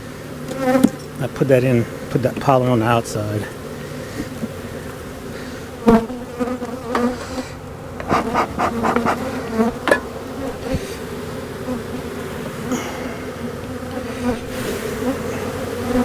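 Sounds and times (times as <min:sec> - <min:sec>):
bees buzzing: 0:00.0 - 0:16.0
clicks and scrapes on hive: 0:00.4 - 0:16.0.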